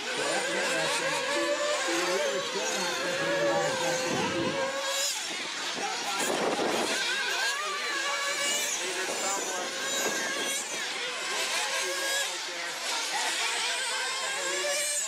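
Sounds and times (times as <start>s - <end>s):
rc car engines whining: 0.0s - 15.0s.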